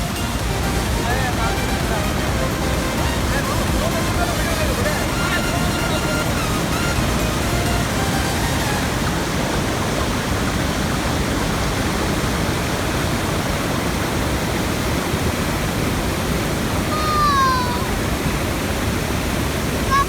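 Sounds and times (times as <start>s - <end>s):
waterfall pouring: 0.0s - 20.0s.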